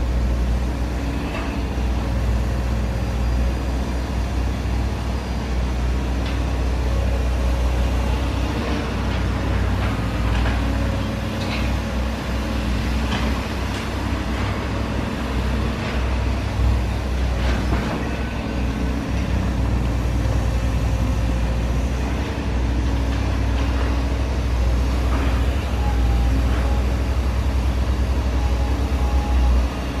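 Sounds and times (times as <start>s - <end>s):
excavator diesel engine rumbling: 0.0s - 30.0s.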